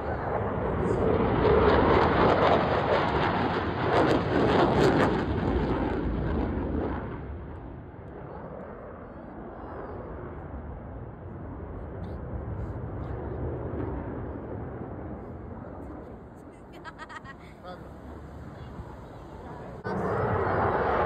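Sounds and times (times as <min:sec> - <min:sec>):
jets flying overhead: 0:00.0 - 0:21.0.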